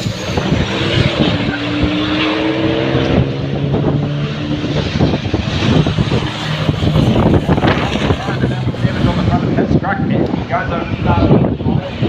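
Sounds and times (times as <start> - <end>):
truck diesel engines racing: 0.0 - 12.0.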